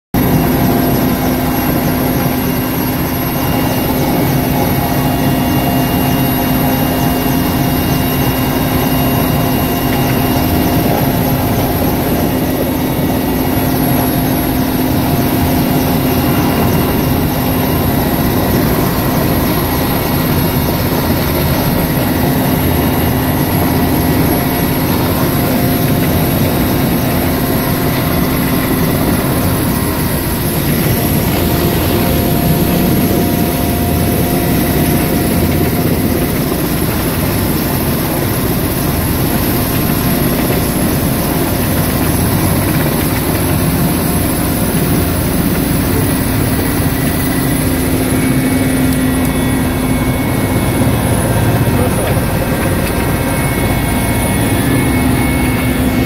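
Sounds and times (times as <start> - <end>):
helicopter turbine and rotor hum: 0.1 - 56.0
high turbine whine: 0.2 - 56.0.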